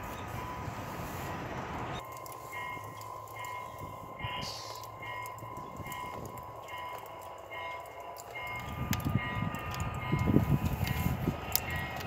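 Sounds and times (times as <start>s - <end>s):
model train wheels and motor: 2.0s - 12.0s.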